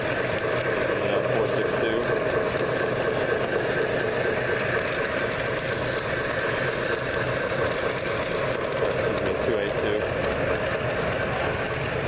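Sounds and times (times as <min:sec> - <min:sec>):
model train rumbling on rails: 0:00.0 - 0:12.0.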